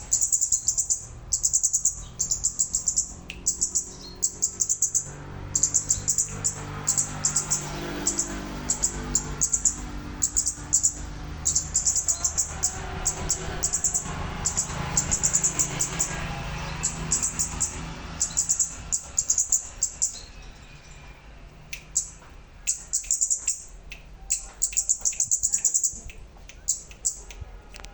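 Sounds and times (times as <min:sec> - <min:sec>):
bird chirping rapidly: 0:00.0 - 0:21.0, 0:21.7 - 0:27.4.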